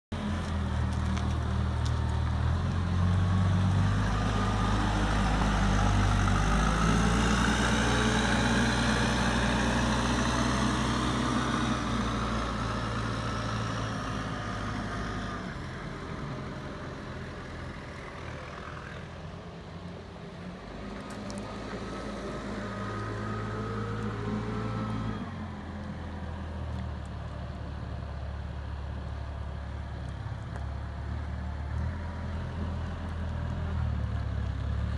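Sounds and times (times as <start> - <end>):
diesel engine revving: 0.1 - 34.9
tyres on gravel: 0.1 - 34.9.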